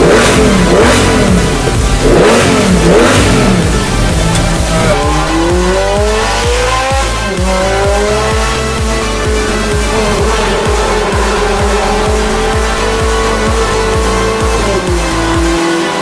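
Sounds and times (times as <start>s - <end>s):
sports car accelerating hard: 0.0s - 16.0s
sports car engine revving: 0.0s - 16.0s.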